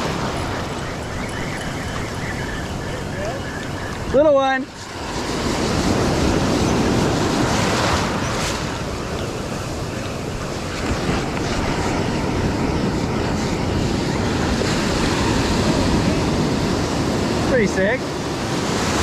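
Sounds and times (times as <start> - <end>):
ocean surf breaking: 0.0 - 19.0
wind rumbling on microphone: 0.0 - 19.0.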